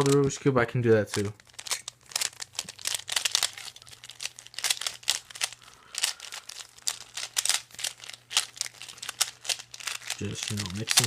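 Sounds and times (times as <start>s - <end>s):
puzzle cube clicking: 0.0s - 11.0s.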